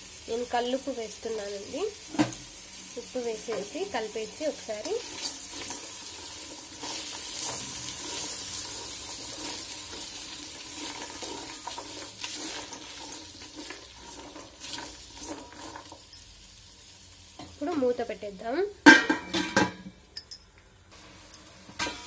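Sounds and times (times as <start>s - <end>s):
vegetables sizzling in oil: 0.0s - 18.8s.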